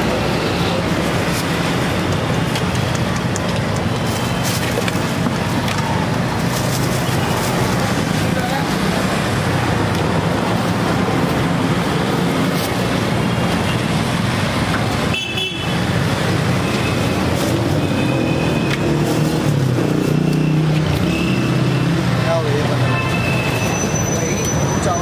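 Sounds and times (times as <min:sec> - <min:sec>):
street traffic engines: 0:00.0 - 0:25.0.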